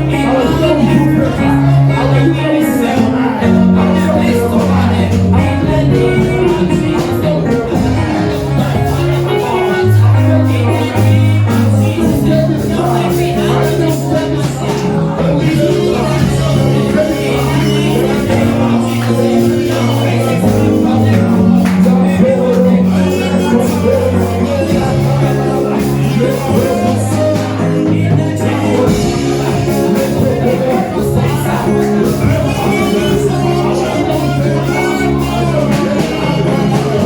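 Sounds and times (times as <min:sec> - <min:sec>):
band with bass and drums: 0:00.0 - 0:37.0
voices singing: 0:00.0 - 0:37.0.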